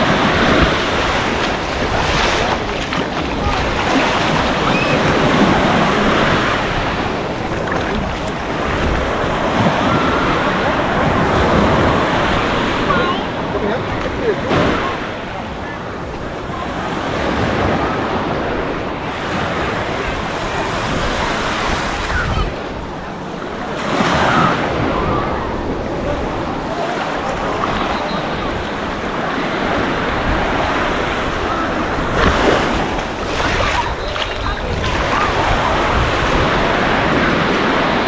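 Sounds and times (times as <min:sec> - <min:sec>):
waves breaking on a beach: 0:00.0 - 0:38.0.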